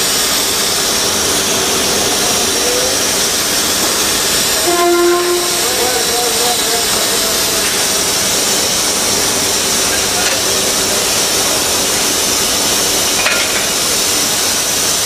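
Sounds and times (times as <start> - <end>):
loud hiss of air and machinery: 0.0 - 15.0.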